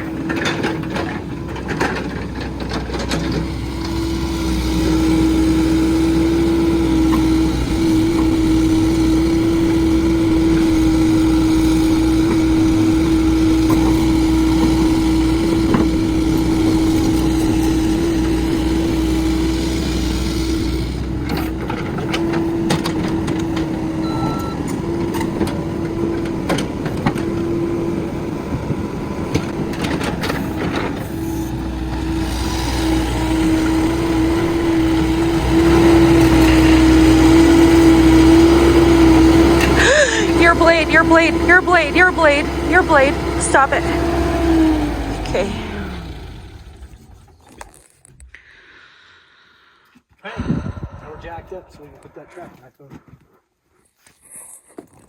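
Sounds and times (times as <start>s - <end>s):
excavator diesel engine running: 0.0s - 47.3s.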